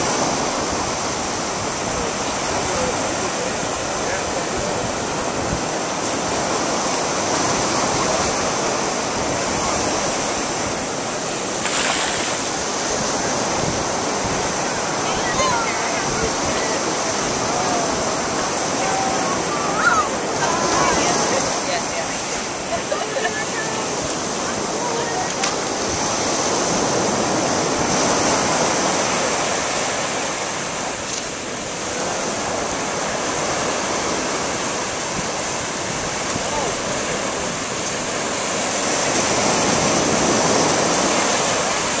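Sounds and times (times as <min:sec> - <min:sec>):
ocean surf breaking: 0:00.0 - 0:42.0.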